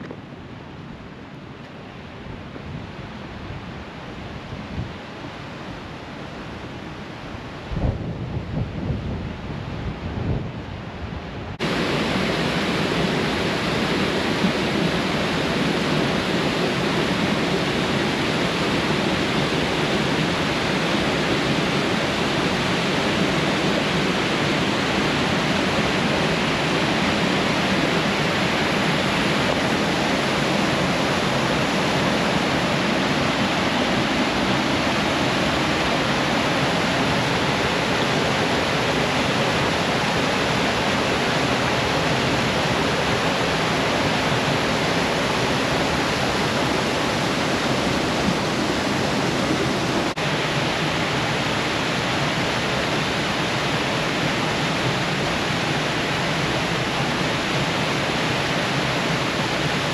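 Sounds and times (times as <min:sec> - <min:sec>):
waterfall rushing: 0:11.6 - 0:59.9.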